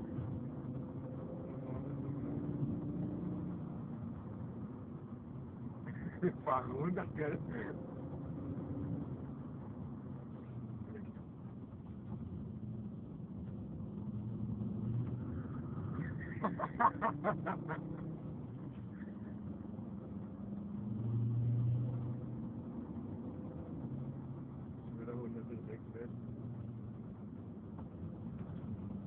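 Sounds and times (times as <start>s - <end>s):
car engine and road noise inside cabin: 0.0s - 29.0s.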